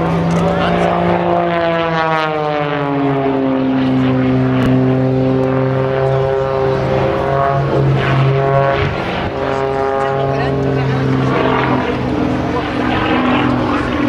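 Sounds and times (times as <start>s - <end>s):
propeller plane engine: 0.0s - 14.0s.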